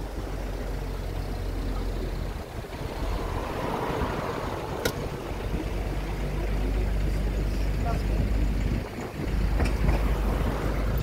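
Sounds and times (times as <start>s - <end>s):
engine rumble: 0.0s - 11.0s
road noise: 0.0s - 11.0s.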